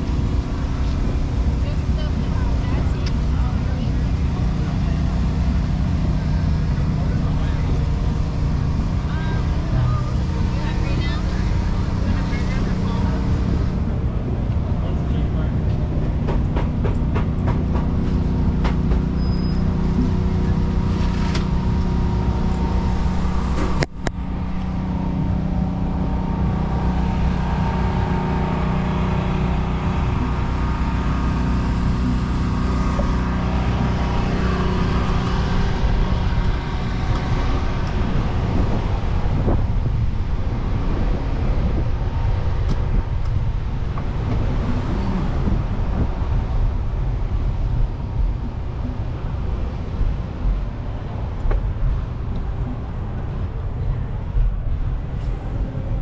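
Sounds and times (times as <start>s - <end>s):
traffic engine drone: 0.0s - 56.0s.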